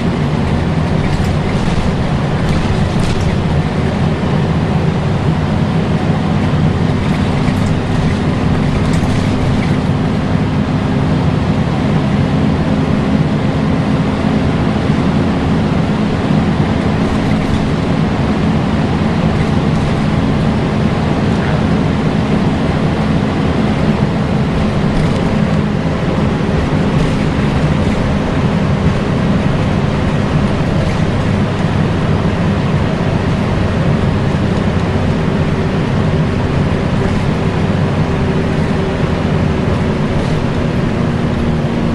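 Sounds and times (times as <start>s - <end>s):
bus diesel engine drone: 0.0s - 41.9s
road and body noise: 0.0s - 41.9s.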